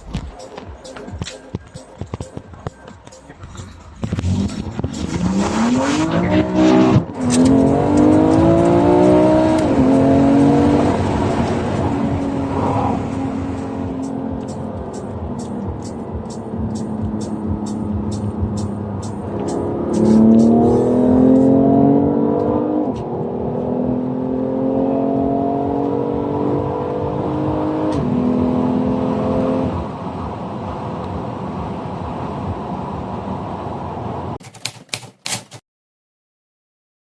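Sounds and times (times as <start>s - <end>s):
car engine accelerating hard: 3.3s - 33.8s.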